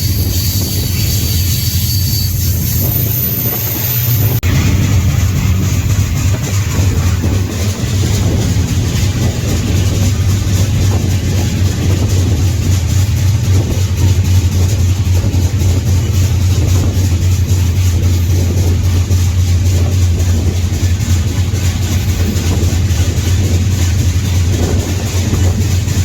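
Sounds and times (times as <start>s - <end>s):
train rumbling: 0.0s - 26.0s
steady low drone: 4.4s - 26.0s.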